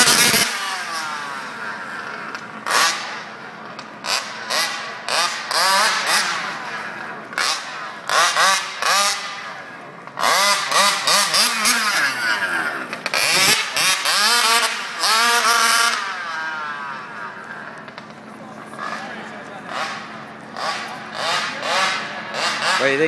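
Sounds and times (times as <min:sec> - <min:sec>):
small two-stroke engine revving: 0:00.0 - 0:23.0.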